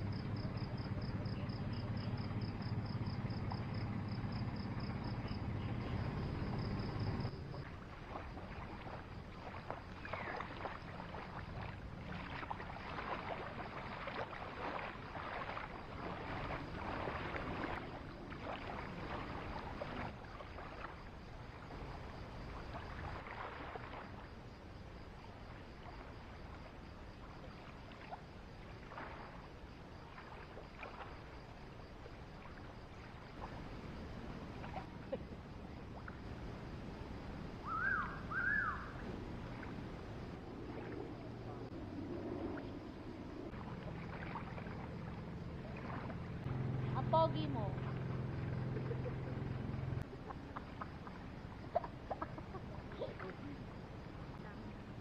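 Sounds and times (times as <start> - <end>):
low steady hum: 0.0 - 24.3, 30.0 - 55.0
insect chirping: 0.0 - 55.0
shallow water splashing: 1.7 - 55.0.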